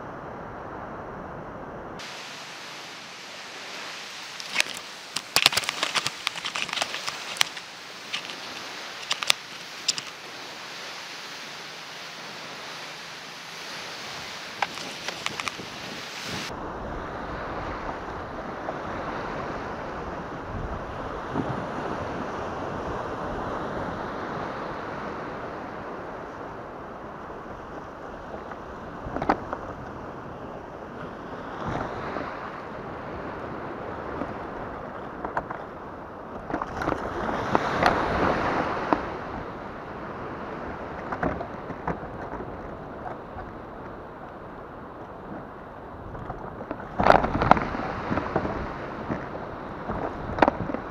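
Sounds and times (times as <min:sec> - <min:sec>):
rush of water: 0:00.0 - 0:50.9
shallow surf sloshing: 0:00.0 - 0:50.9
wind buffeting microphone: 0:00.0 - 0:50.9.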